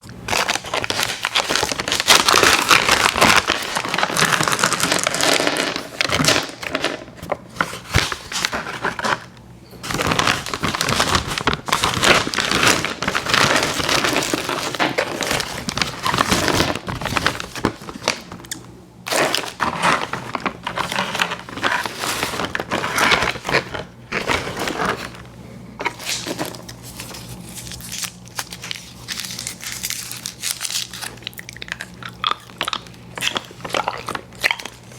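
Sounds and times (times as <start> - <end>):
candy wrapper crinkling: 0.1 - 25.2, 25.8 - 34.9.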